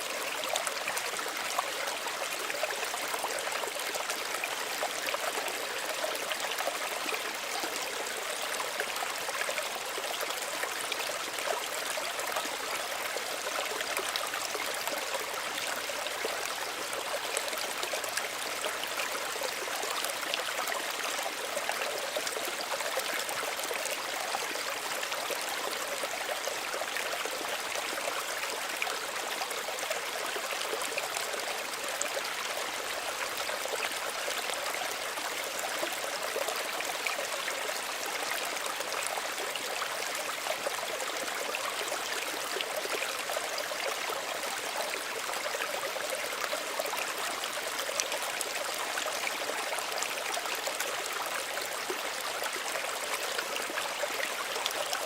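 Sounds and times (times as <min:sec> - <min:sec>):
stream babbling and trickling: 0:00.0 - 0:55.0.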